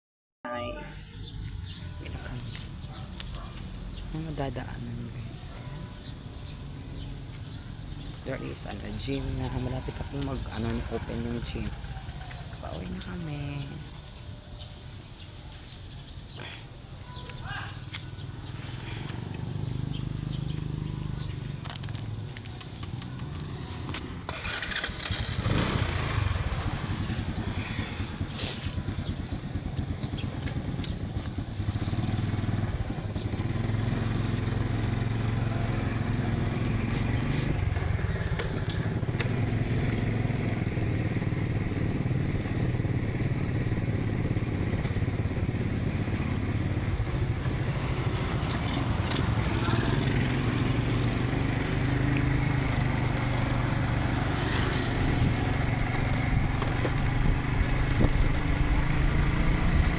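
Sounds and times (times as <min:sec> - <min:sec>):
road noise: 0:00.6 - 0:59.9
motorcycle engine droning: 0:05.6 - 0:14.9, 0:16.9 - 0:59.9.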